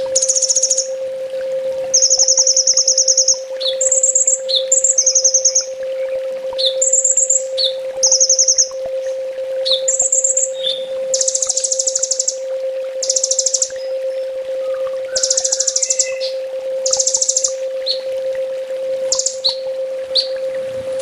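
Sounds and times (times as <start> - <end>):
sunbird high-pitched trills: 0.0 - 1.0, 1.9 - 18.2, 19.0 - 21.0
bird chip notes: 0.0 - 1.1, 1.7 - 21.0
steady low hum: 0.0 - 21.0.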